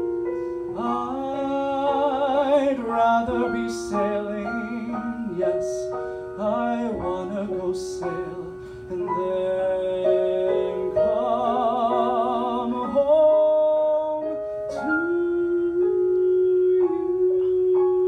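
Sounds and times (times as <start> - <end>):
piano accompaniment: 0.0 - 18.0
man singing show tune: 0.7 - 18.0.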